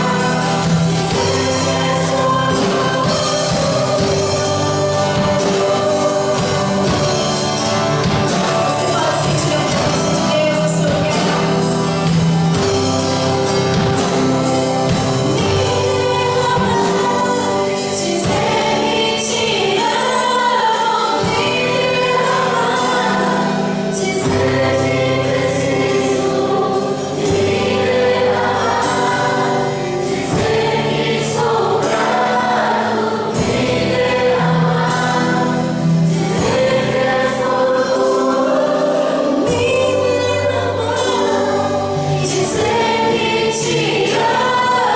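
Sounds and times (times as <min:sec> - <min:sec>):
band playing: 0:00.0 - 0:44.9
group of singers: 0:00.0 - 0:44.9.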